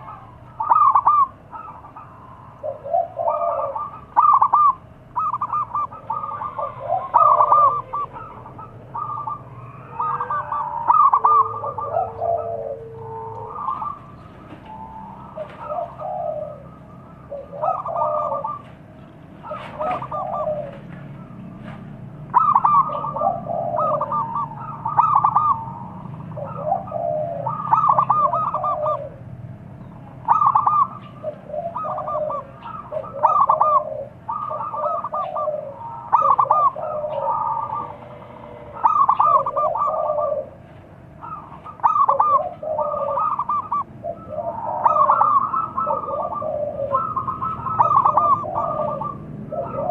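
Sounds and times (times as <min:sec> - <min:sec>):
doves cooing: 0:00.0 - 0:49.9.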